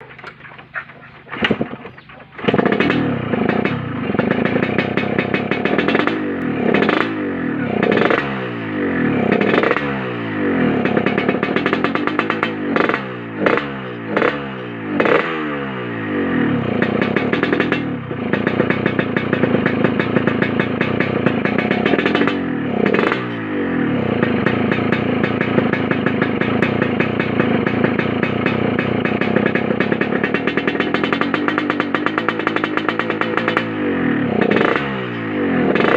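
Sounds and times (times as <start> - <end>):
two-stroke motorcycle engine revving: 0.0 - 35.9.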